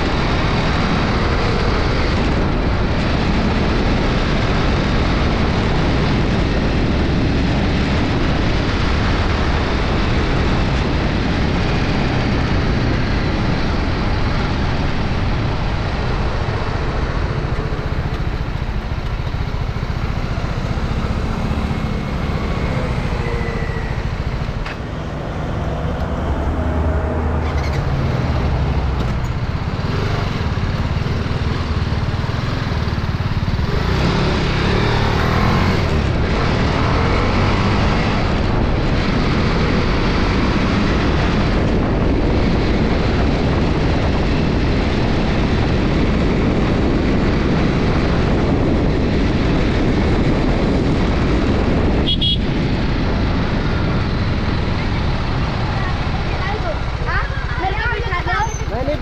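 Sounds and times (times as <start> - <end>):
motorcycle engine running: 0.0 - 59.0
wind rush on camera: 0.0 - 59.0.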